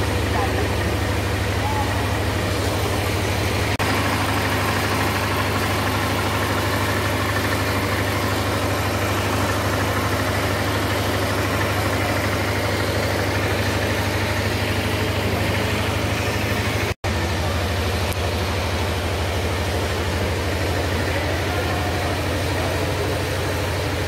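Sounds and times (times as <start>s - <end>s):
engine-driven water pump running: 0.0s - 24.0s.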